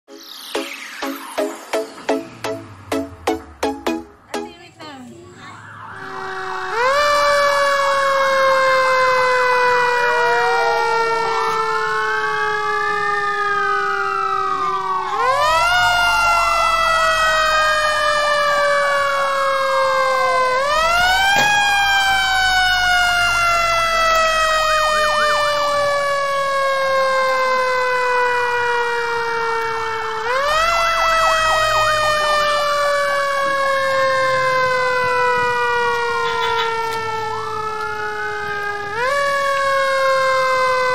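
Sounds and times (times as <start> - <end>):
fire engine siren wailing: 4.8 - 40.9
second siren wail: 5.2 - 40.9.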